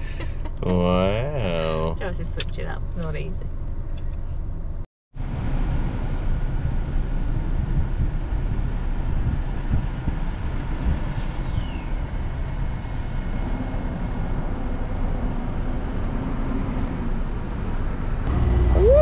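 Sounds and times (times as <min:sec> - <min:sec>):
car engine and road noise: 0:00.0 - 0:19.0
deep rumble with rising tone: 0:00.0 - 0:19.0.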